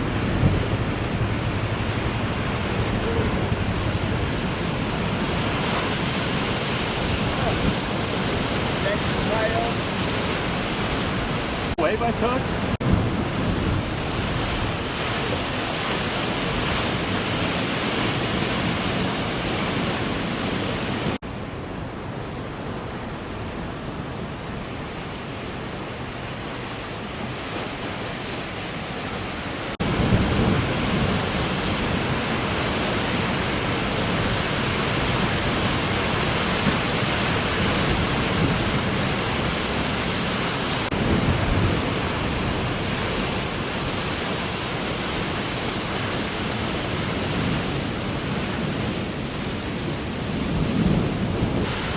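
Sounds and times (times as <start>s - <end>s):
wind on microphone: 0.0s - 21.2s, 29.8s - 51.9s
ocean surf: 0.0s - 51.9s.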